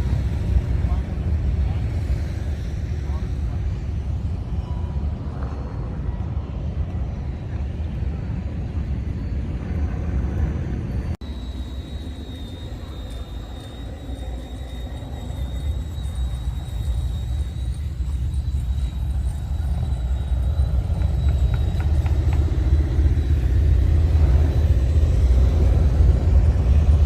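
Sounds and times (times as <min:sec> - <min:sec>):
thin high whine: 0:00.0 - 0:27.0.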